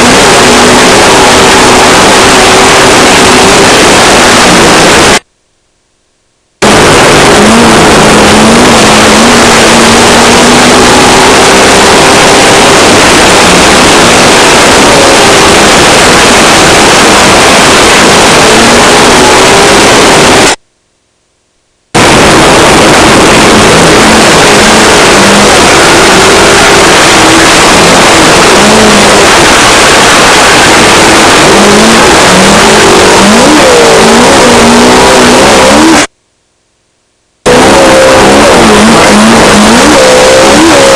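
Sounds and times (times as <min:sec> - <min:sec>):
race car engine revving: 0:00.0 - 0:05.2, 0:06.6 - 0:20.6, 0:22.0 - 0:36.1, 0:37.5 - 0:40.9
rough ride noise rushing: 0:00.0 - 0:05.3, 0:06.6 - 0:20.6, 0:22.0 - 0:36.1, 0:37.5 - 0:40.9.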